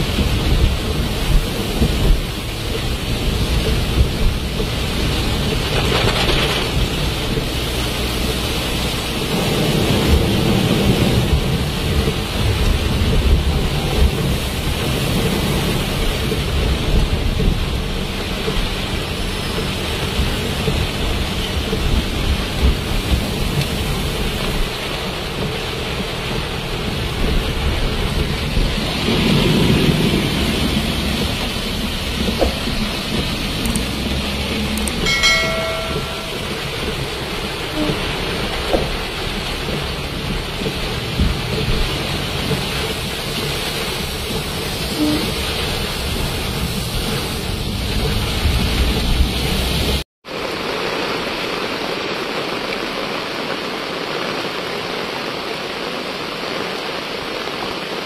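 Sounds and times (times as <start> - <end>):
rain hissing on a car: 0.0 - 58.0
wet road noise: 0.0 - 58.0.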